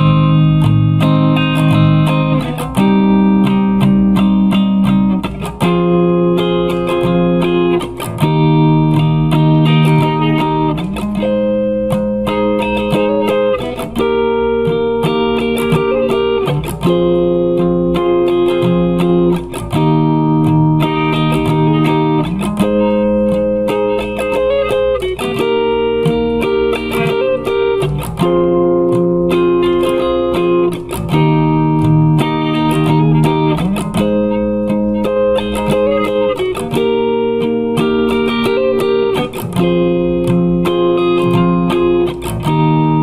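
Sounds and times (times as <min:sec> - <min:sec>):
guitar chords strummed: 0:00.0 - 0:43.0.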